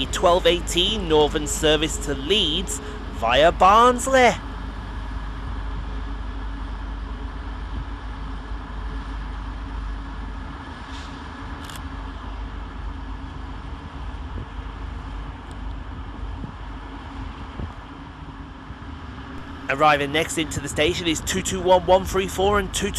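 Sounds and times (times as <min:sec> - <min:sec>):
train diesel engines rumbling: 0:00.0 - 0:22.9.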